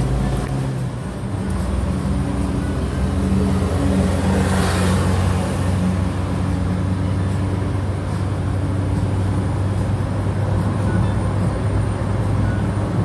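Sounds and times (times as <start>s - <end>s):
car engine humming: 0.0s - 13.0s
road traffic: 0.0s - 13.0s.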